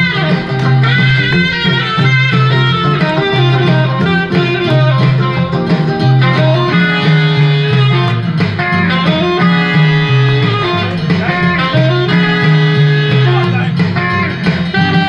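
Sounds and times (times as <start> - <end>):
bass line: 0.0 - 15.0
plucked guitar: 0.0 - 15.0.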